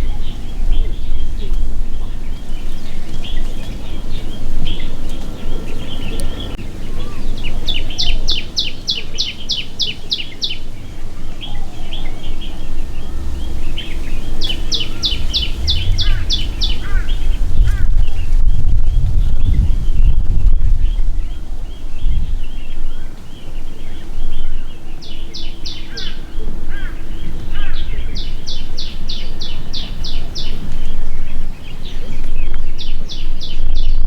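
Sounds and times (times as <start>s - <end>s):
low rumble: 0.0s - 34.0s
songbirds chirping: 0.0s - 34.0s.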